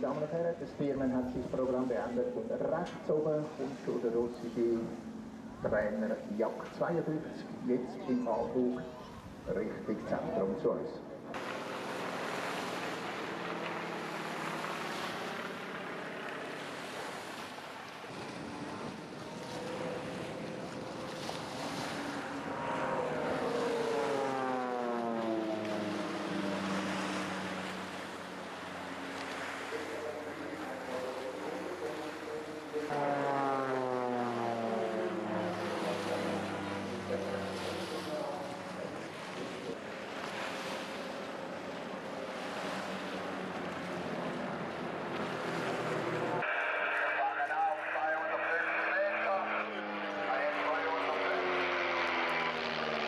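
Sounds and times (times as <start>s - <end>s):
propeller plane flying past: 0.0s - 53.0s.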